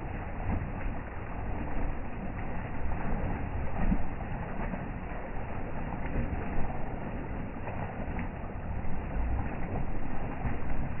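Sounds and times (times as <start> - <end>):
water gushing from pipe: 0.0 - 11.0.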